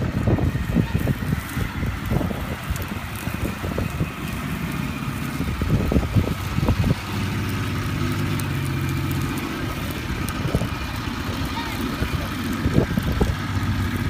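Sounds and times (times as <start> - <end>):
suv engine humming: 0.0 - 14.0
wind buffeting microphone: 0.0 - 14.0.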